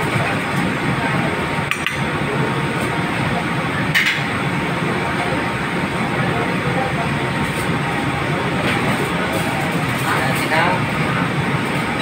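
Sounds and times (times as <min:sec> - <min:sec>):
kitchen equipment roar: 0:00.0 - 0:12.0.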